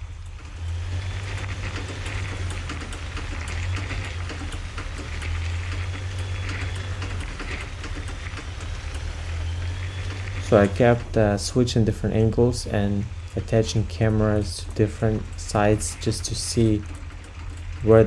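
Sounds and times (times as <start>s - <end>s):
drivetrain low drone: 0.0s - 18.0s
irregular clicking and knocking: 0.0s - 18.0s.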